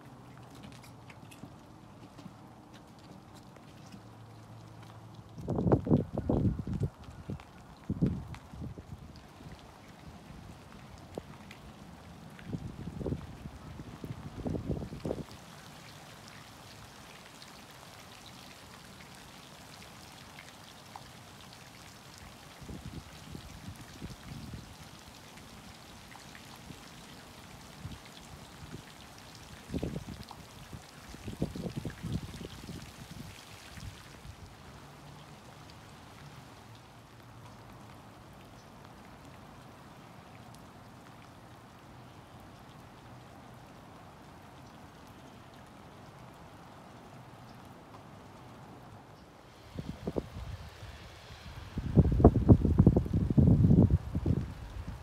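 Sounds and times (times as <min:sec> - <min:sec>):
light rain falling: 0:00.0 - 0:55.0.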